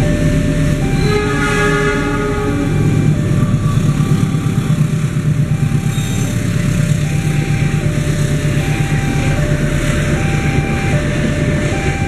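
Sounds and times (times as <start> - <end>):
train coaches rumbling past: 0.0 - 12.0
two-tone crossing alarm: 0.0 - 12.0.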